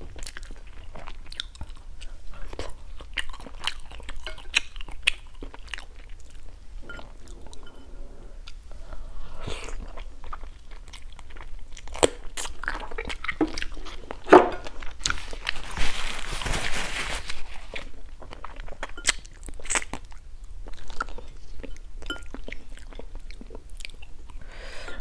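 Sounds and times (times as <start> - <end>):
chewing and crunching: 0.0 - 7.8, 9.6 - 24.4.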